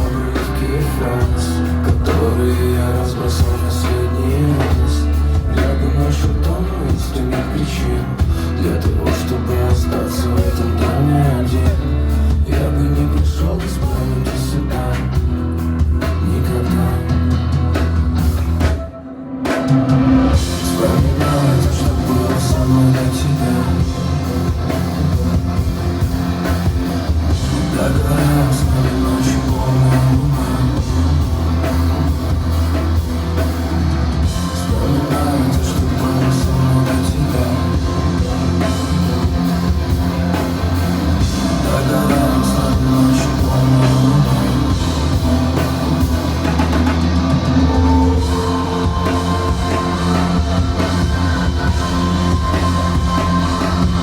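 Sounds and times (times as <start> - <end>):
person singing: 0.0 - 17.5, 18.8 - 32.2, 34.2 - 54.0
drum kit: 0.0 - 54.0
electric guitar: 0.0 - 54.0
live rock band: 0.0 - 54.0.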